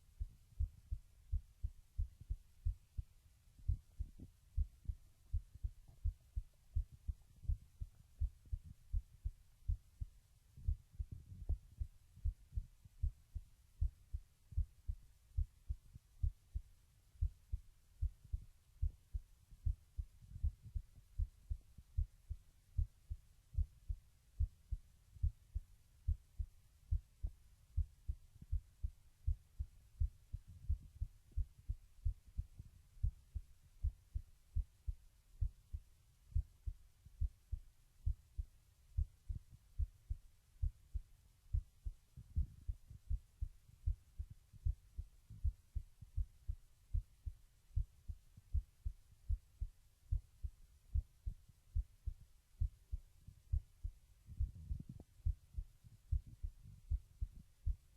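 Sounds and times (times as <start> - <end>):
heartbeat thumps: 0.0 - 57.9.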